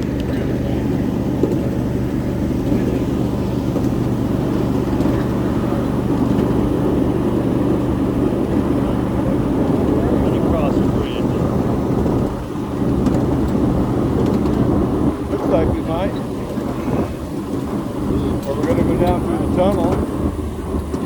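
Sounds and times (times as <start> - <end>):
miniature train rumbling on track: 0.0 - 21.0.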